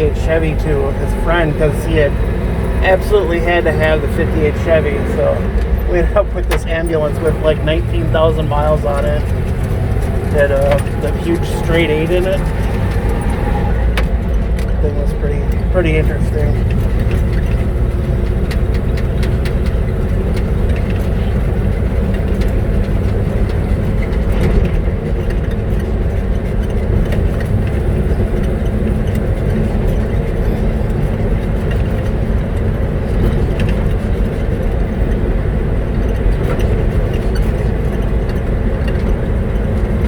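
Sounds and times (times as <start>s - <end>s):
small rattles and clicks: 0.0s - 40.0s
truck engine and road noise: 0.0s - 40.0s.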